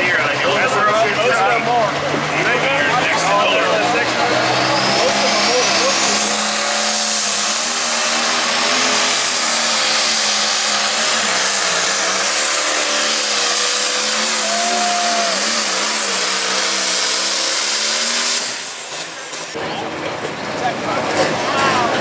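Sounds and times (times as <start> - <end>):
diesel engine running flat out: 0.0 - 22.0.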